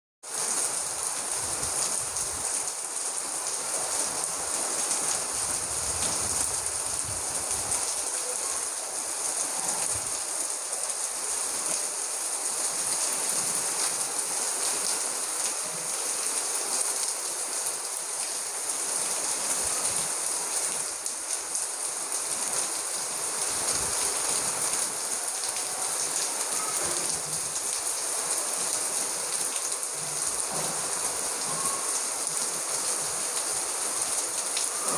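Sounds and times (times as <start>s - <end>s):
heavy rain: 0.2s - 34.9s.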